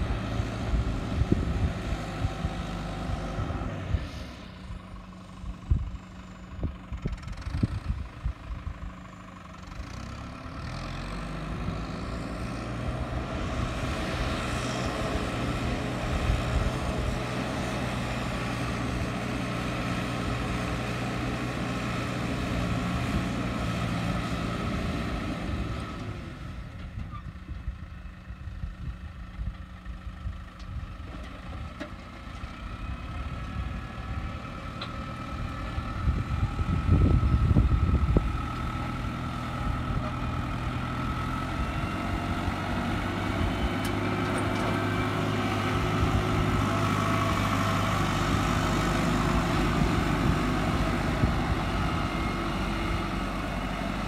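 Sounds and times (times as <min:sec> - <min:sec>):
grader blade scraping dirt: 0:00.0 - 0:05.3, 0:09.1 - 0:27.2, 0:31.0 - 0:54.0
tractor diesel engine rumbling: 0:00.0 - 0:54.0.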